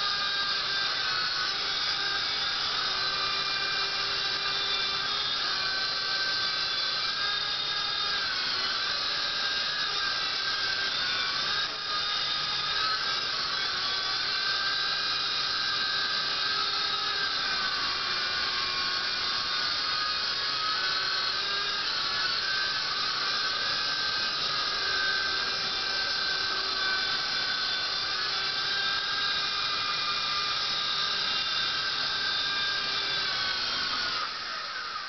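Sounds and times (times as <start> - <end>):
toy helicopter motor whine: 0.0 - 35.0.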